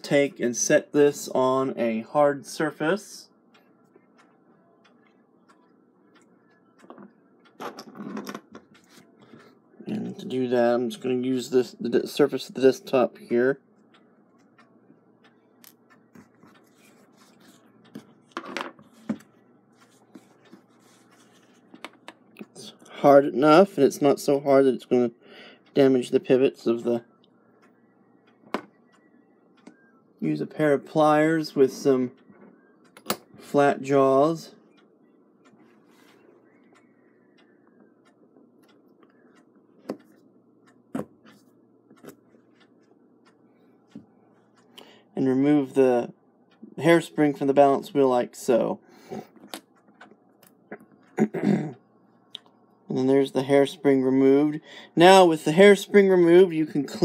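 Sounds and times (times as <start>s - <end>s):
faint clicks of clock parts: 3.5s - 51.6s.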